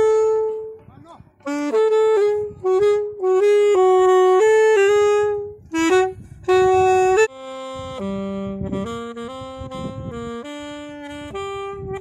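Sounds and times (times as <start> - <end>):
alto saxophone melody: 0.0 - 12.0.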